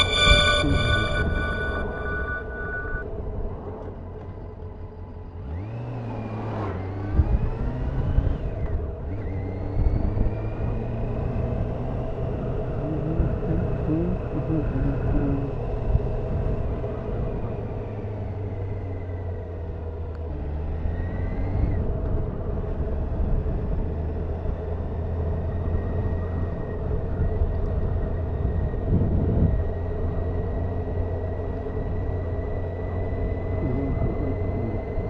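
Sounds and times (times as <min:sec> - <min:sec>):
road and wind noise: 0:03.1 - 0:35.0.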